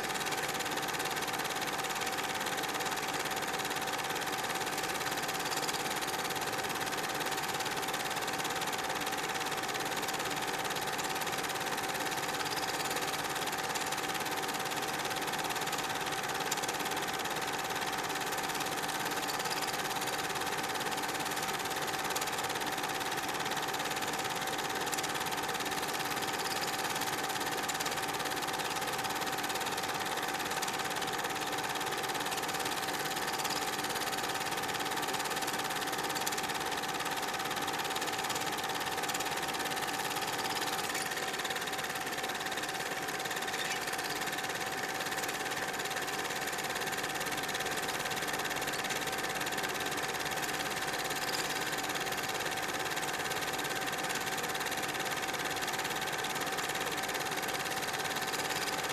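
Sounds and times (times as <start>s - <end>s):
film projector whirring: 0.0s - 58.9s.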